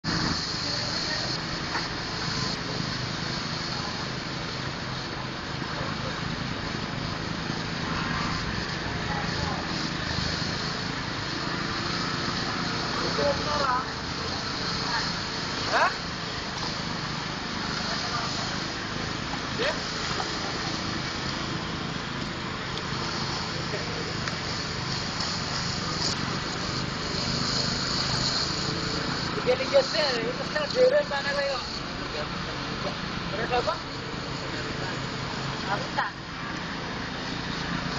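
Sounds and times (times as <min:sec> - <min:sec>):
small petrol engine running: 0:00.0 - 0:37.9.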